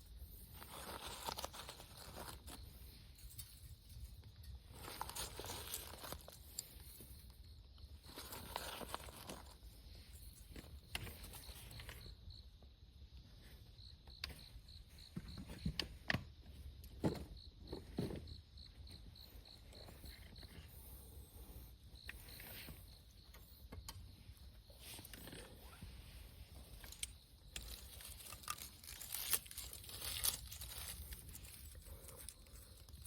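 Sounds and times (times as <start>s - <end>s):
insect chirping: 0.0s - 33.0s.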